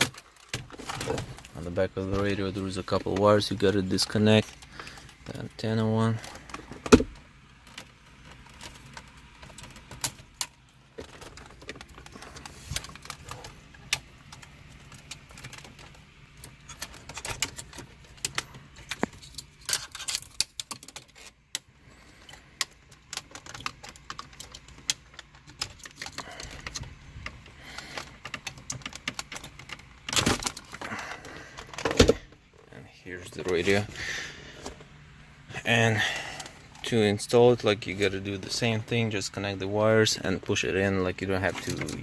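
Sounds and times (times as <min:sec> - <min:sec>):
car radio clicks and rattles: 0:00.0 - 0:42.0.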